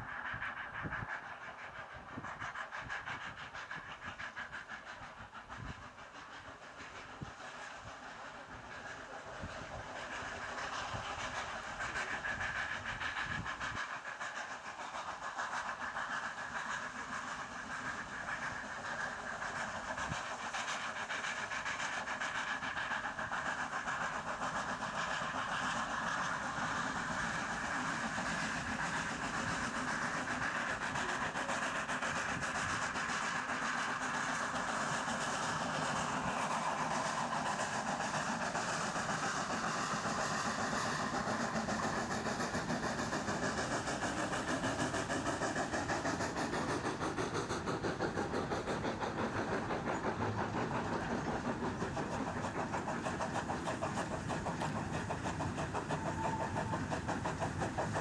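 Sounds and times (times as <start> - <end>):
steam train running on rails: 0.0 - 58.0.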